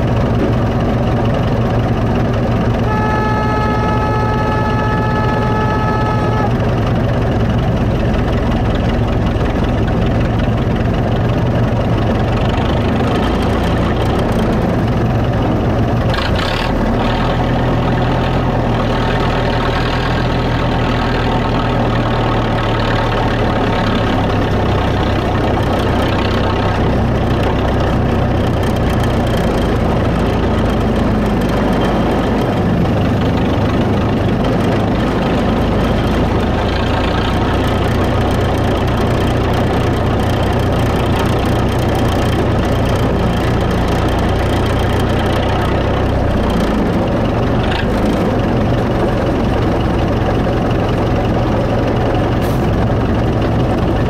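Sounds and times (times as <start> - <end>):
locomotive engine running: 0.0 - 54.0.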